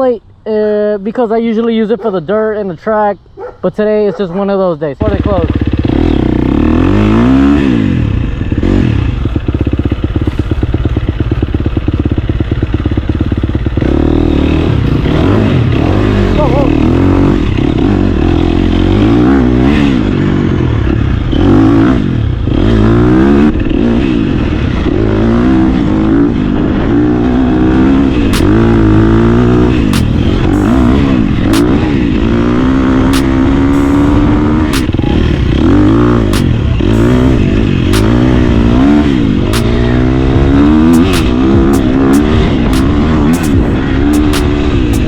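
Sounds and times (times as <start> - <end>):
dirt bike engine running: 5.0 - 45.0.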